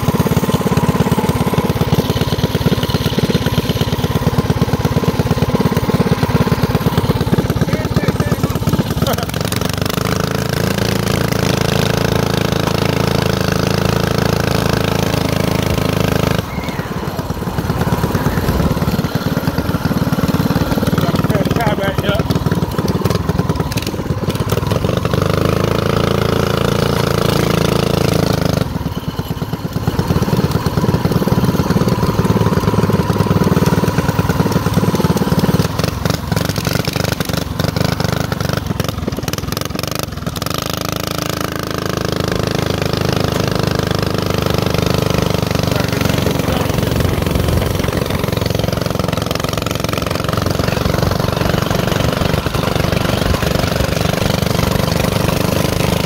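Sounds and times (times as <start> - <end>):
small motorbike engine revving: 0.0 - 56.0.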